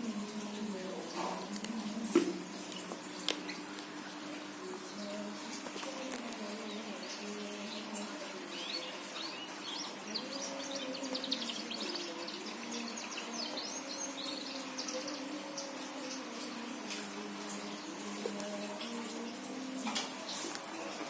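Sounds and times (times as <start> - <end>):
birds chirping: 0.8 - 21.0.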